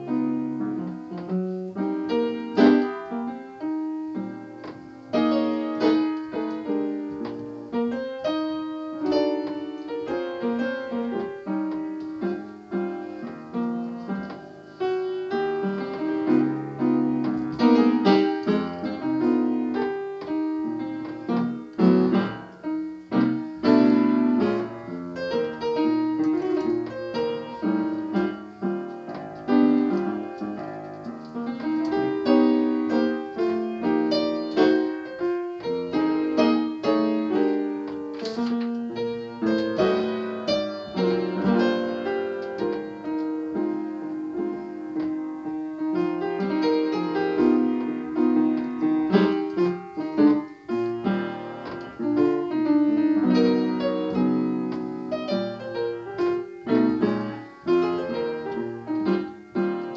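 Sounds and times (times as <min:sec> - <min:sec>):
upright piano jazz playing: 0:00.0 - 0:59.9.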